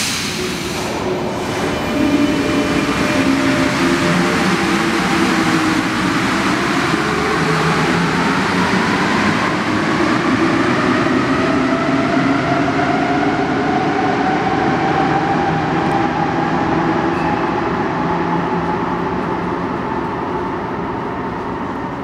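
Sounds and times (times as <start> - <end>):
metro train drive whine: 0.0 - 22.0.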